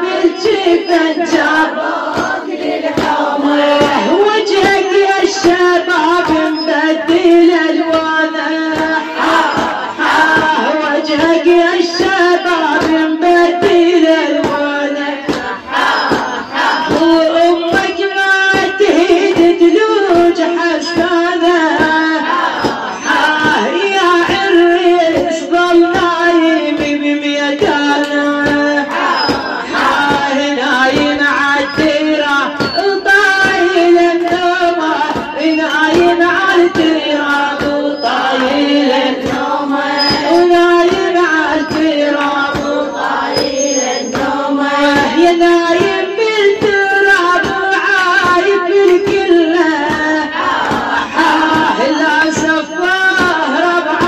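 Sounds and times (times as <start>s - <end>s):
steady beat: 0.0s - 53.6s
woman chanting a lament: 0.0s - 54.0s.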